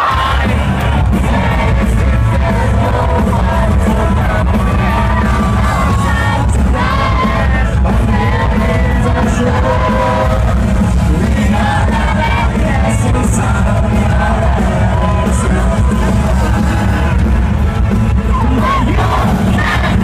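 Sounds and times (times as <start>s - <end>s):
heavy metal band playing live: 0.0s - 20.0s
voices singing and yelling: 0.0s - 20.0s.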